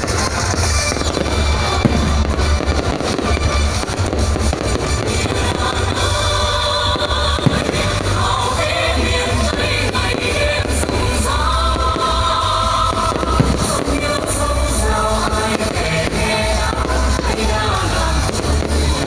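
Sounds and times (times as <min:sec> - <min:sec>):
fireworks bangs: 0:00.0 - 0:19.0
loud music with heavy bass: 0:00.0 - 0:19.0.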